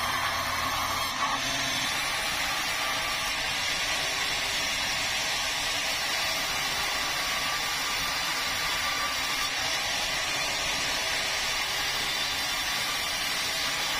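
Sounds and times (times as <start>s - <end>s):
sawmill saw whirring: 0.0s - 13.9s.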